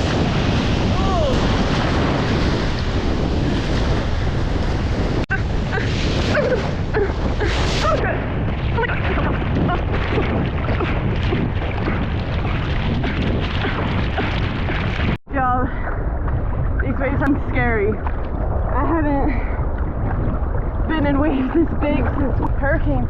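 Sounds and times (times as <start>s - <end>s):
churning surf: 0.0s - 23.0s
wind buffeting microphone: 0.0s - 23.0s.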